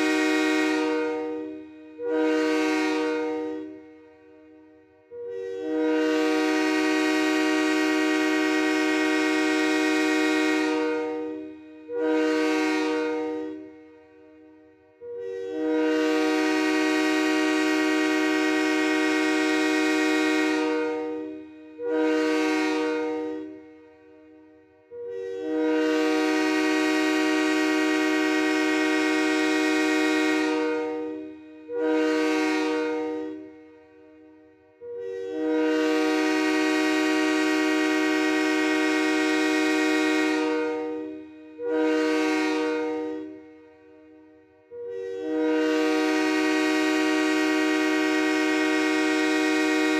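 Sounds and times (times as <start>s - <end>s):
train air horn blasts: 0.0s - 49.9s.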